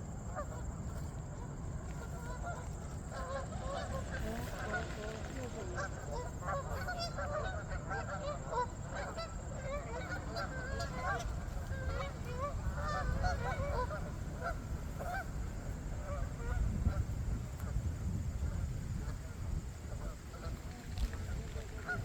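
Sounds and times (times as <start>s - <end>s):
geese honking: 0.0s - 17.4s, 18.4s - 22.0s.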